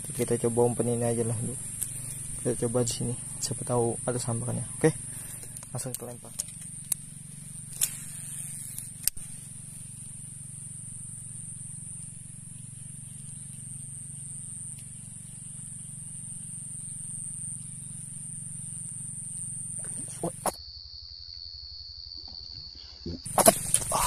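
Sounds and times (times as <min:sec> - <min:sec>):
low steady hum: 0:00.0 - 0:20.6
high-pitched insect drone: 0:00.0 - 0:24.0.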